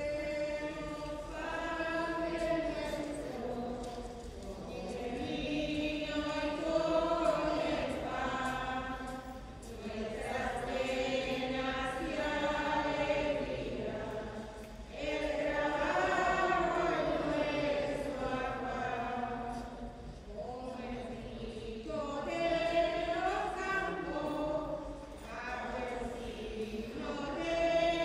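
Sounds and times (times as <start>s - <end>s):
voices singing a slow hymn: 0.0s - 28.0s.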